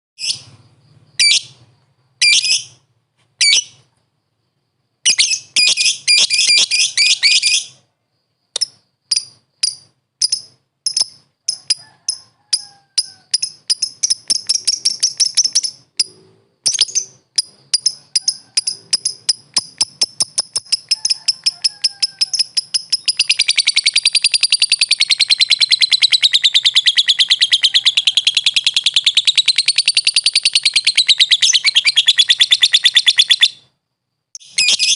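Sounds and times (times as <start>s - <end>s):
lovebird chirping and trilling: 0.2s - 1.6s, 2.2s - 2.8s, 3.4s - 3.8s, 5.1s - 7.8s, 8.6s - 33.7s, 34.4s - 34.9s.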